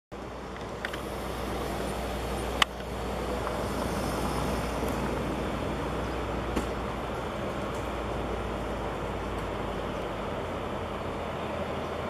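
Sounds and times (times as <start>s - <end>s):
distant vehicles rumbling: 0.1s - 12.0s.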